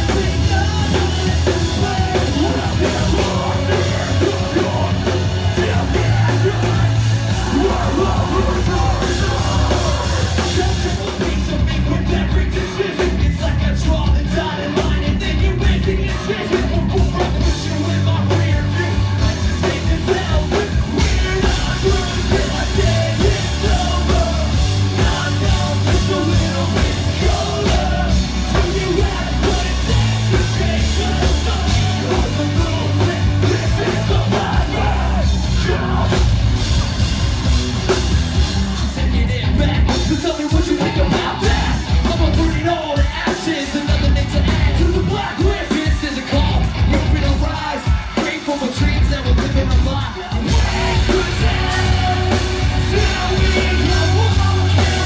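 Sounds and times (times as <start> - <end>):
sung and shouted vocals: 0.0 - 36.9, 38.4 - 55.0
drums: 0.0 - 55.0
electric guitars: 0.0 - 55.0.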